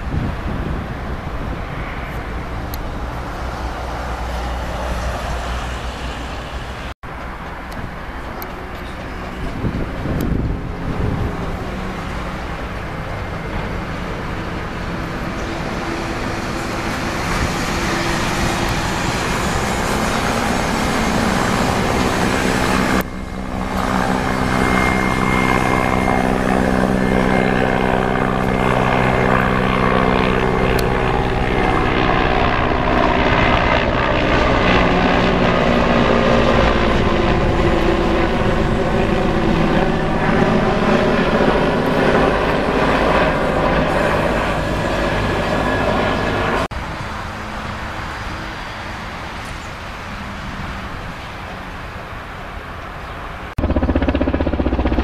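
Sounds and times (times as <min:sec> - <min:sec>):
helicopter rotor thrum and whine: 0:00.0 - 0:51.7, 0:53.4 - 0:55.0.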